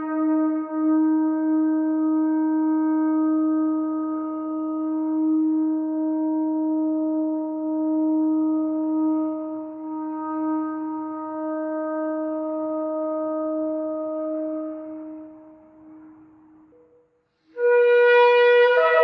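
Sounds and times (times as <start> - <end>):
shofar long note: 0.0 - 16.8, 17.5 - 19.0.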